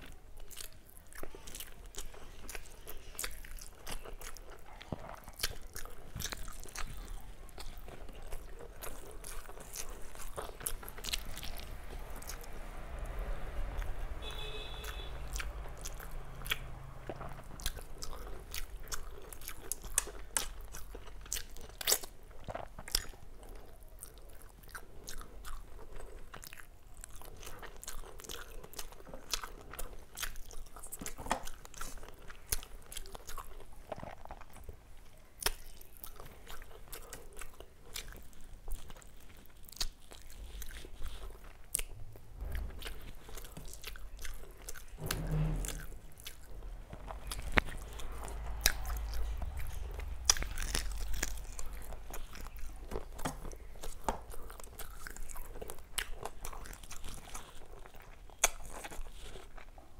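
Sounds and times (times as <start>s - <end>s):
person chewing and eating: 0.0s - 59.9s.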